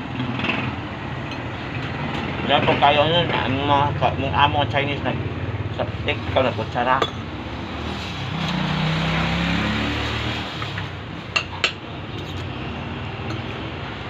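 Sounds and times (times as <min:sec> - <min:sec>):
vehicle engine passing: 0:00.0 - 0:11.3.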